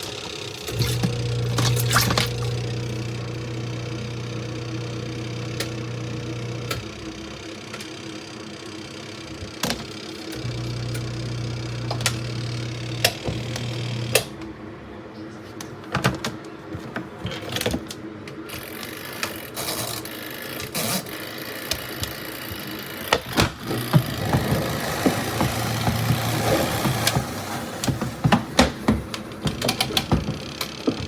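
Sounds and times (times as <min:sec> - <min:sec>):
washing machine motor humming: 0:00.0 - 0:14.6, 0:18.6 - 0:31.0.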